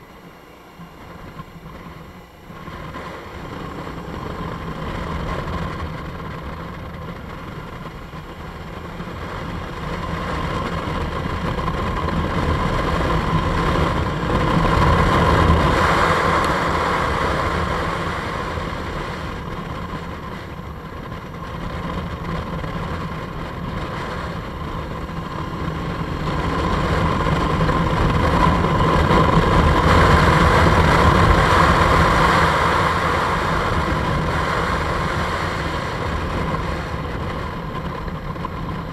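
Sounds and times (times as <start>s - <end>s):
motorcycle engine running: 0.0s - 38.9s
rush of wind: 0.0s - 38.9s.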